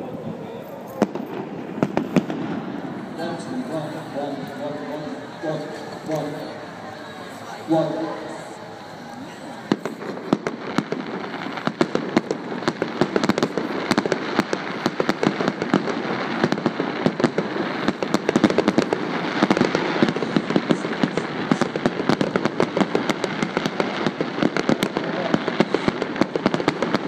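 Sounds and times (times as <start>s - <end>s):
fireworks cracks and bangs: 0.0s - 27.0s.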